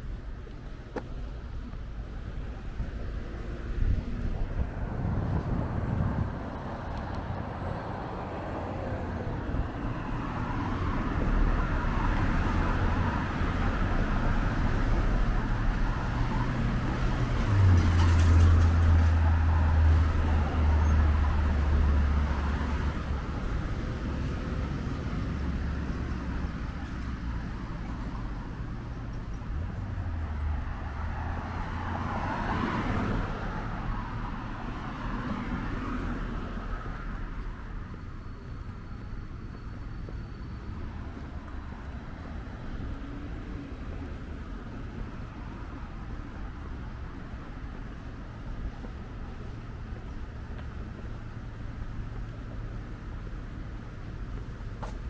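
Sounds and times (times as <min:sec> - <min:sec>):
road traffic passing: 0:00.0 - 0:55.0
vehicle engine hum: 0:00.0 - 0:55.0.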